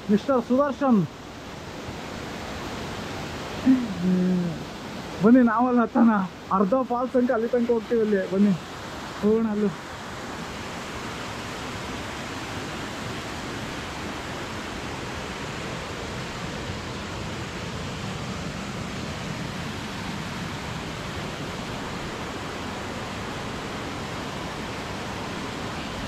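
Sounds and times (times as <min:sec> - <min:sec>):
waterfall rushing over rock: 0:00.0 - 0:26.0.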